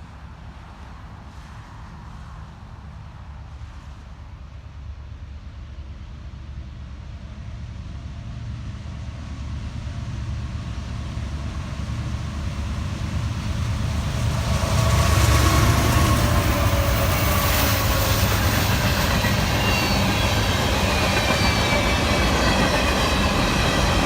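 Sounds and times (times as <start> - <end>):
diesel train engine rumble: 0.0 - 24.0
rail and wheel noise: 0.0 - 24.0.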